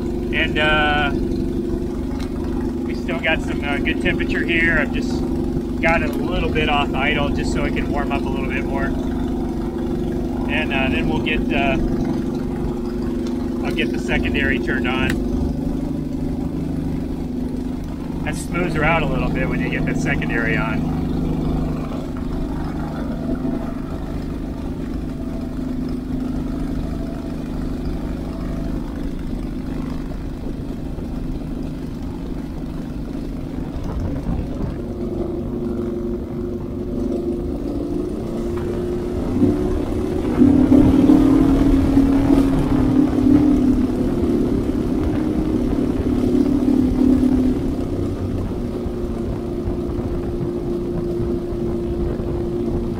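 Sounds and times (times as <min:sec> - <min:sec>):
aircraft engine and propeller running: 0:00.0 - 0:52.9.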